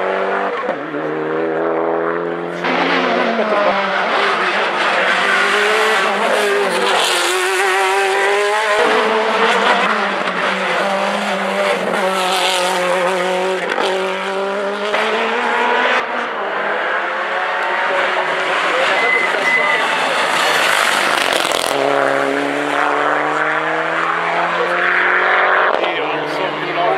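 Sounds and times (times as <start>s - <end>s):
race car engine revving: 0.0s - 26.9s.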